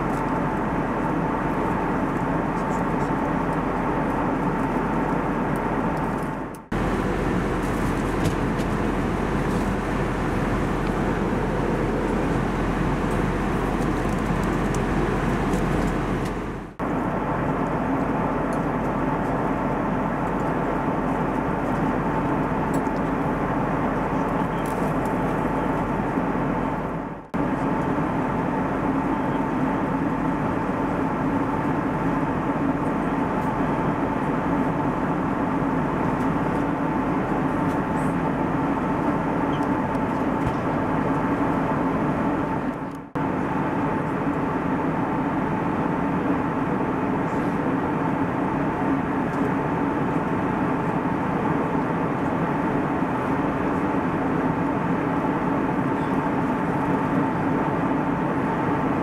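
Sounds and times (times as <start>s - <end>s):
airplane cabin noise: 0.0s - 59.0s
jet engine whine: 0.0s - 59.0s.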